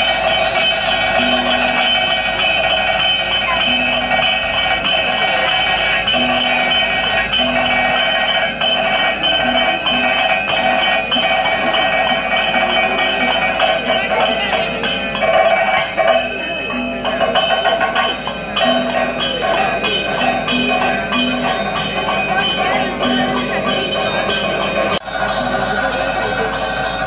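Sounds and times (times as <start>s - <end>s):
drums playing: 0.0s - 27.0s
jingling bells: 0.0s - 27.0s
ringing cymbals: 0.0s - 27.0s.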